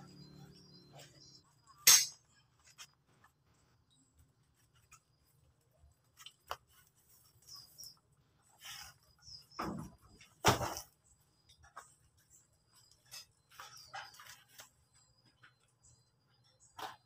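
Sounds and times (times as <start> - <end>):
faint knocks and scrapes of wheels: 0.0 - 17.0.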